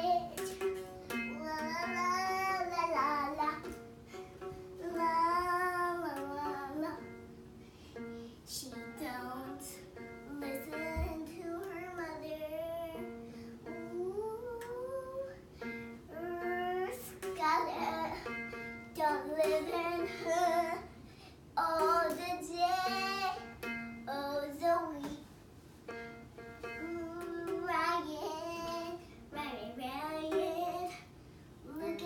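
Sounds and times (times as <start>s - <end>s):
child singing: 0.0s - 3.9s, 4.7s - 7.2s, 8.5s - 21.0s, 21.6s - 25.2s, 26.6s - 32.0s
ukulele strumming: 0.0s - 31.1s.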